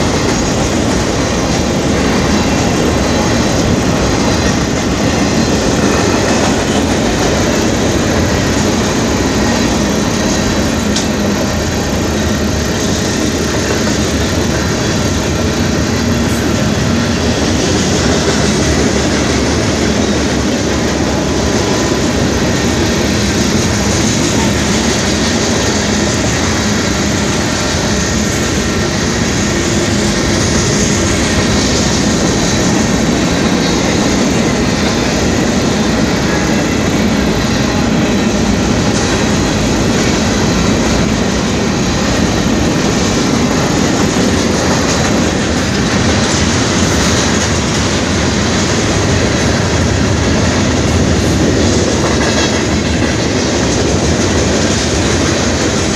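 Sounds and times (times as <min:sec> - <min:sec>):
train wheels on rail: 0:00.0 - 0:55.9.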